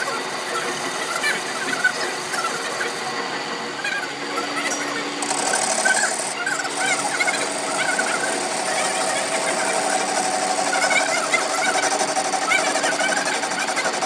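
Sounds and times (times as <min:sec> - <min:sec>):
workshop machine running: 0:00.0 - 0:14.0.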